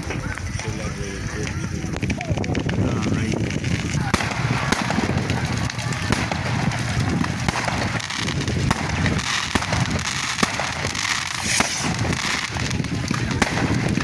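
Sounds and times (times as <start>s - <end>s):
fireworks crackling pops: 0.0s - 14.0s
fireworks hissing fizz: 0.0s - 14.0s.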